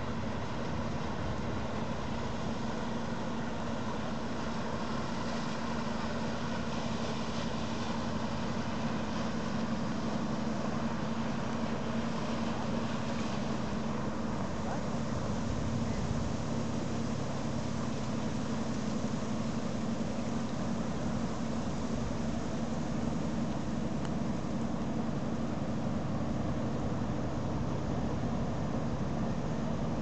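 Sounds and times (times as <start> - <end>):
ship engines humming: 0.0 - 30.0.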